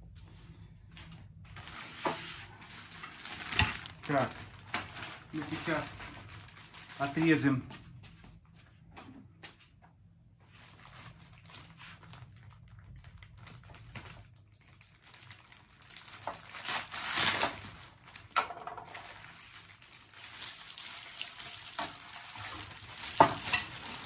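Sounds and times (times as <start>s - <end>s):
plastic packaging crinkling: 1.0s - 7.7s, 10.5s - 24.0s.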